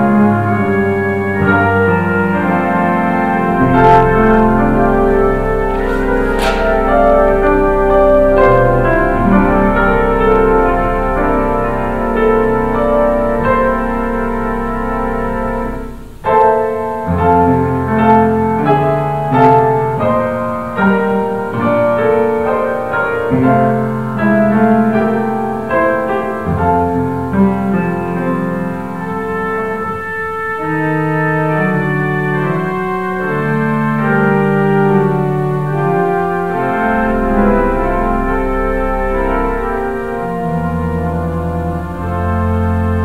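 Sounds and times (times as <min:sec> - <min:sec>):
organ chords: 0:00.0 - 0:43.0
piano notes: 0:00.0 - 0:43.0.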